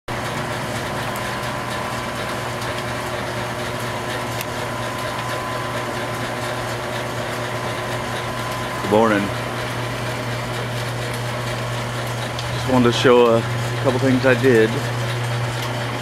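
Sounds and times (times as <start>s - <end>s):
line shaft humming and whining: 0.1s - 16.0s.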